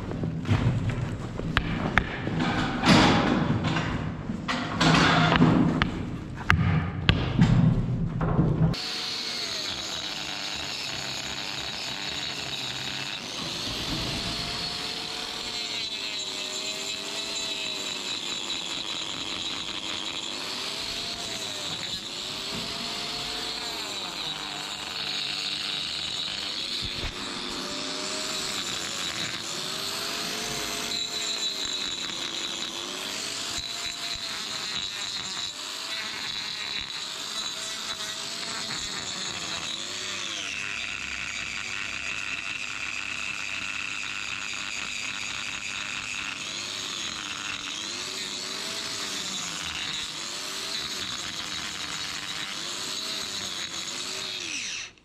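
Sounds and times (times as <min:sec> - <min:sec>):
angle grinder whining: 0:08.7 - 0:55.0.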